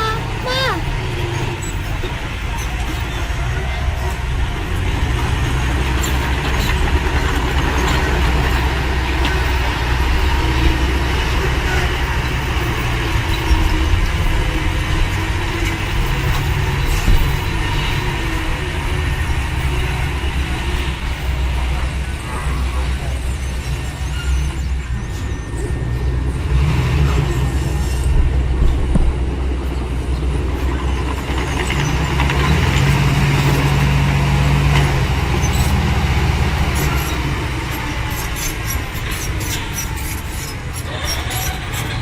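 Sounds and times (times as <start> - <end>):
heavy diesel machinery engines: 0.0 - 42.0.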